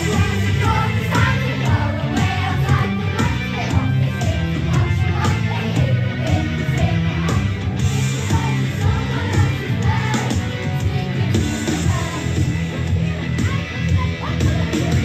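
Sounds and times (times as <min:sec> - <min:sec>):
pulsing bass line: 0:00.0 - 0:15.0
rock song with singing: 0:00.0 - 0:15.0.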